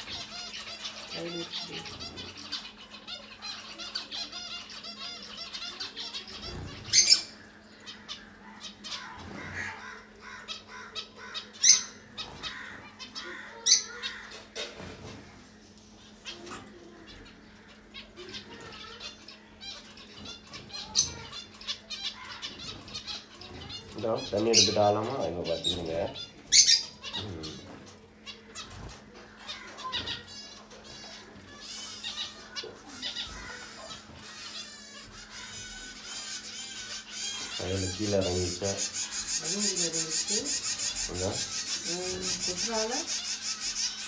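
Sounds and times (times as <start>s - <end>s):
young finches chirping: 0.0s - 44.0s.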